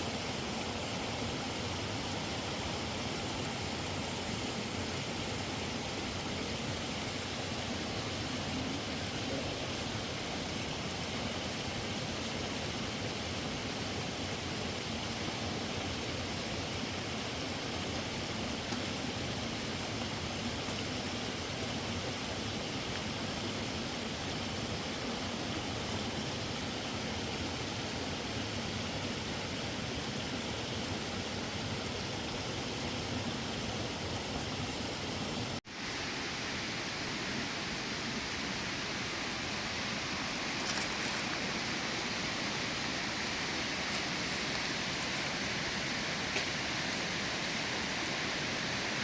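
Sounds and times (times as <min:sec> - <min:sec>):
rushing running water: 0:00.0 - 0:49.0.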